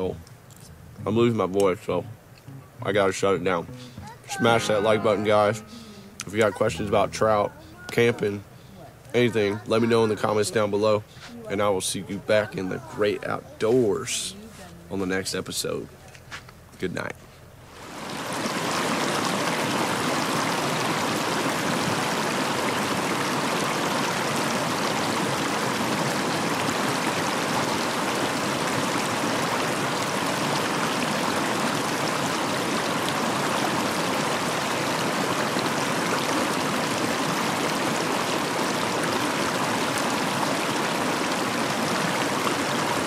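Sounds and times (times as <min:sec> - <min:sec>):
stream babbling over rocks: 0:00.0 - 0:14.3, 0:17.6 - 0:43.0.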